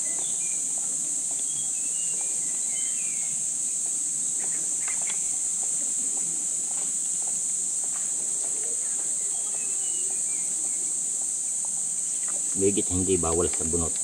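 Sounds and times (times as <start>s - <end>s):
faint bird chirps: 0.0s - 6.8s, 8.3s - 13.9s
high-pitched insect chorus: 0.0s - 14.0s.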